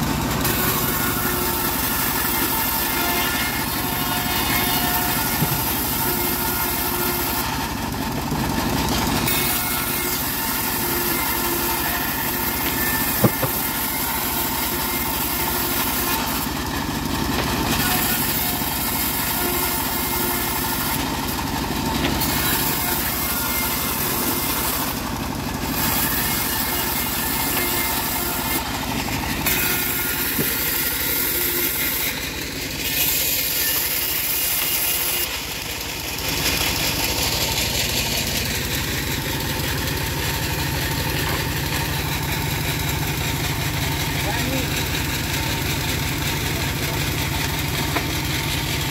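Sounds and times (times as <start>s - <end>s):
bandsaw mill sawing boards: 0.0s - 48.9s.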